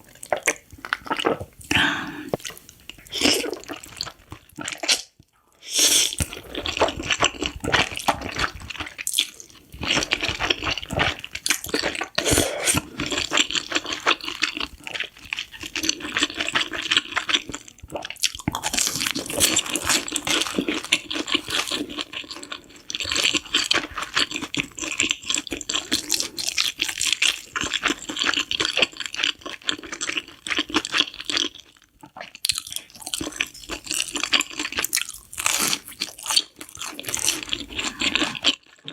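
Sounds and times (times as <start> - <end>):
slurping and chewing noodles: 0.0 - 38.9.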